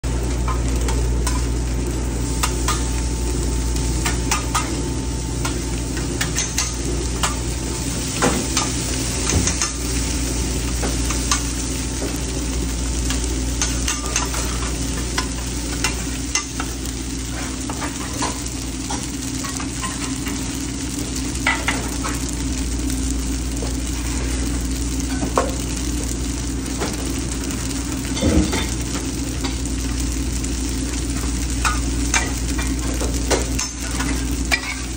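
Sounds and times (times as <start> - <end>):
food sizzling on a griddle: 0.0 - 34.9
steady low hum: 0.0 - 34.9.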